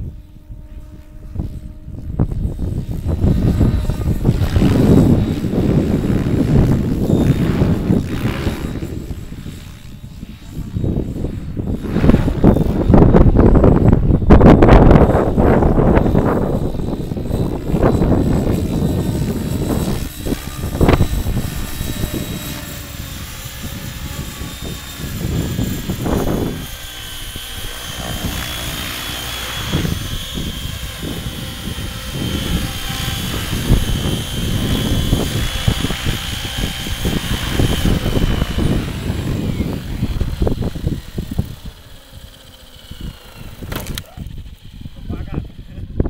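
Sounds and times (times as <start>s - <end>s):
helicopter motor whine: 0.0s - 46.0s
wind on microphone: 0.0s - 46.0s.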